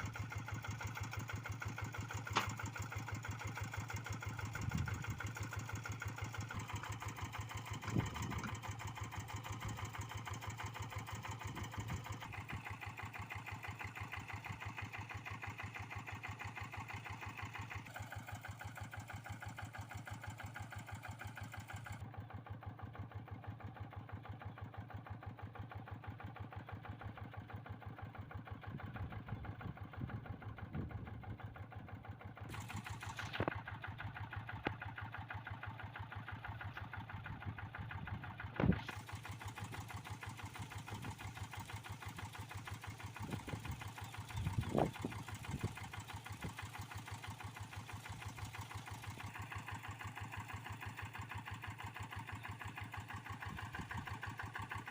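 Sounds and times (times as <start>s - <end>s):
engine knocks: 0.0s - 22.0s, 28.4s - 54.9s
diesel engine chugging: 0.0s - 54.9s.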